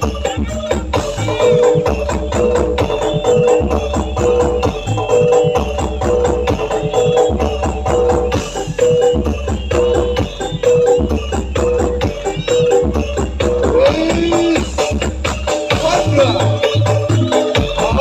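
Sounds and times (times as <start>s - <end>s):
heavy pulsing bass: 0.0s - 18.0s
remix music through sound system: 0.0s - 18.0s.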